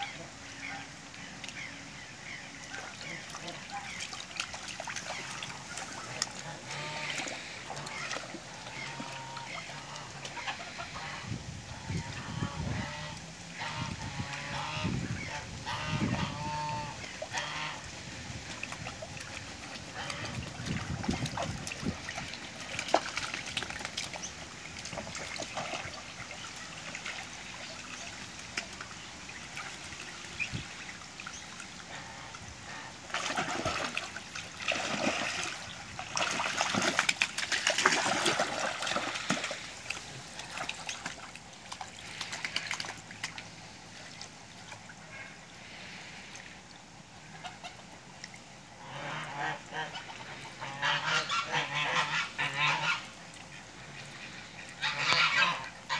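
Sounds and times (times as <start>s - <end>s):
ducks calling: 0.0s - 46.4s, 48.8s - 55.9s
ducks splashing and flapping: 0.0s - 55.9s.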